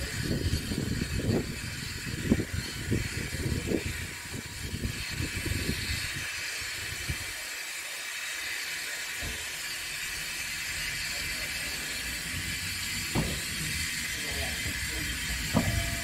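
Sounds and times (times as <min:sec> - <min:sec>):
steam hissing from locomotive: 0:00.0 - 0:16.0.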